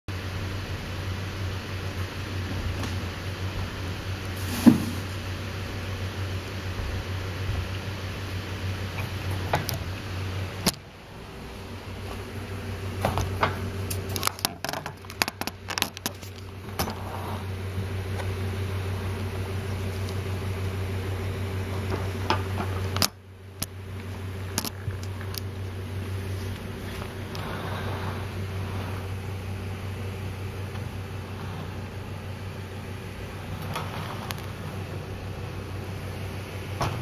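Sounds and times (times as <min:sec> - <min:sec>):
electric fan hum: 0:00.1 - 0:37.0.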